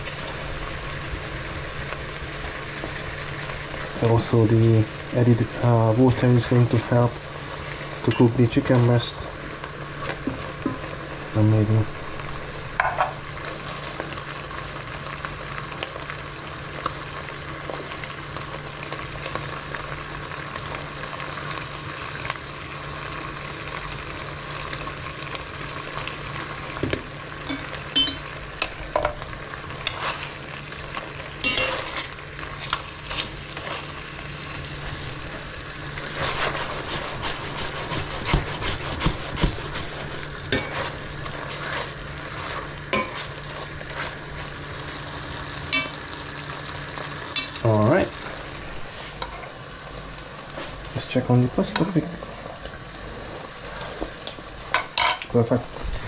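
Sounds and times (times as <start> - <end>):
chicken sizzling in a frying pan: 0.0 - 56.0.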